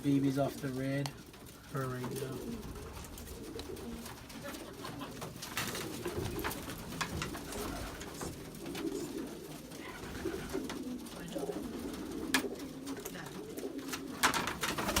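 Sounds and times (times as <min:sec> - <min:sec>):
clicks and scuffs of birds moving: 0:00.0 - 0:15.0
pigeons cooing: 0:00.0 - 0:15.0.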